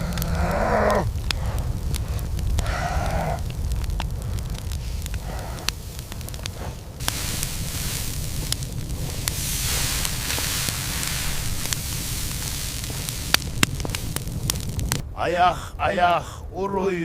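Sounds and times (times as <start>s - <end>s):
low rumble: 0.0s - 16.8s
fire crackling and popping: 0.0s - 17.0s
steady hiss: 0.0s - 17.0s.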